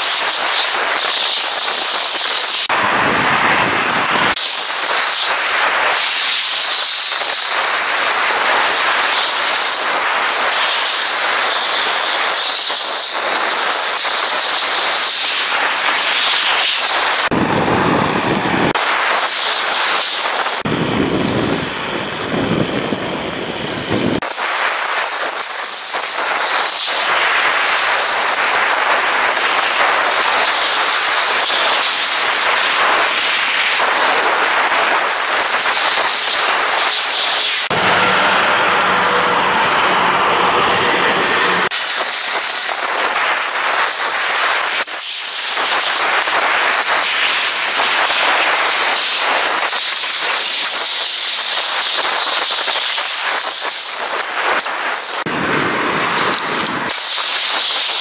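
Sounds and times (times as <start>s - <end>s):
road traffic: 0.0s - 51.3s, 52.8s - 58.0s
wind and road noise: 0.0s - 58.0s.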